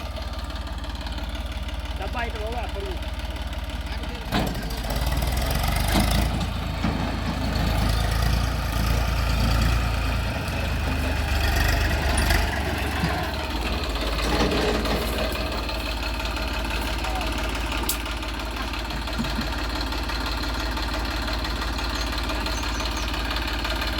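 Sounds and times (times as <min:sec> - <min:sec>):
heavy diesel engine running: 0:00.0 - 0:23.9.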